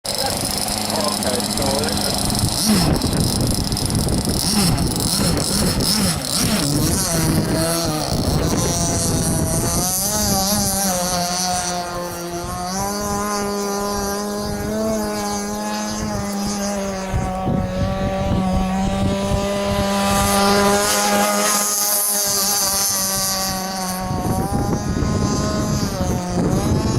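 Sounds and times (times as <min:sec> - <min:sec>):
model boat gas engine whining: 0:00.1 - 0:26.9.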